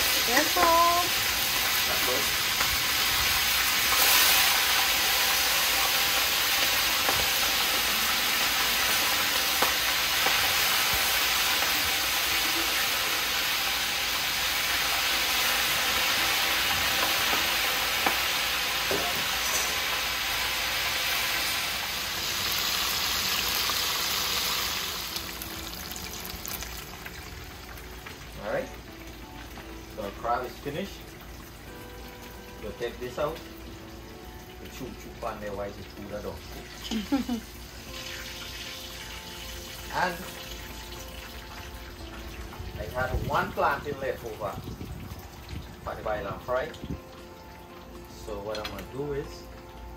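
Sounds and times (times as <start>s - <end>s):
deep-frying sizzle: 0.0s - 49.9s.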